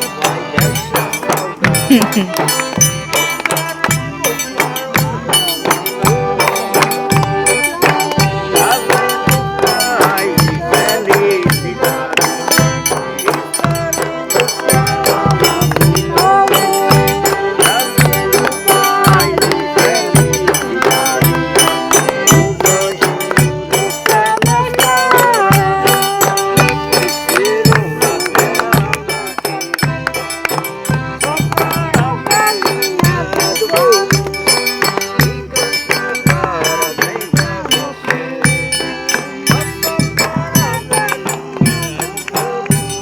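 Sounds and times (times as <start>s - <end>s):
accordion melody: 0.0s - 43.0s.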